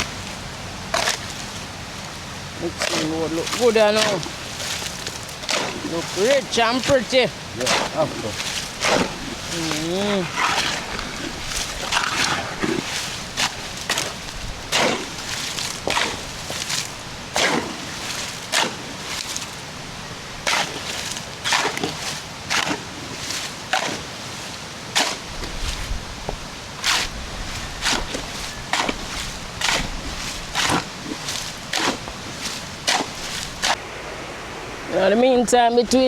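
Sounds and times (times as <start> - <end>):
shovels scraping concrete mix: 2.6 - 19.7, 20.4 - 33.8.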